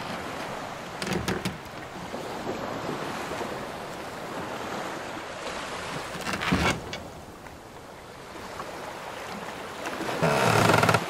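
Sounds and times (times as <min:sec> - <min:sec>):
ocean waves washing around a ship: 0:00.0 - 0:11.0.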